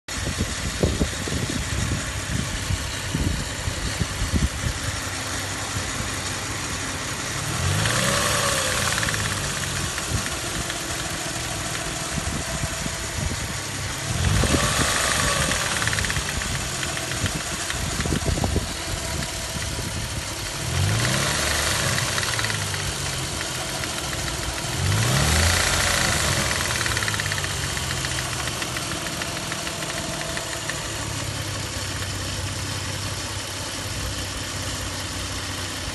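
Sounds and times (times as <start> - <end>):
car engine idling and revving: 0.1 - 35.9
engine knocking: 0.1 - 35.9.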